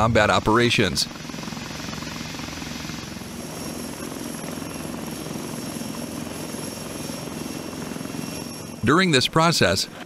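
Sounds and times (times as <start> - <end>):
helicopter engines and rotor drone: 0.0 - 10.0
high turbine whine: 0.0 - 10.0.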